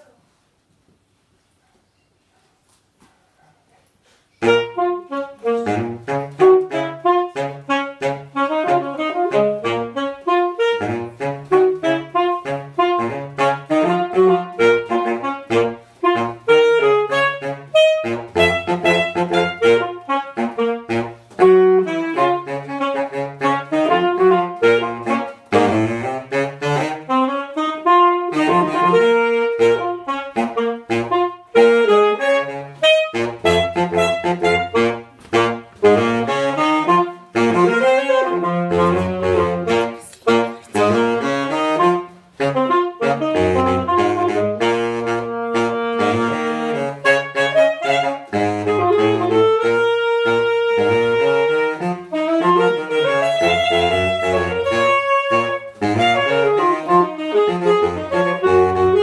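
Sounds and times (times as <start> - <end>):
saxophone duet: 4.3 - 59.0.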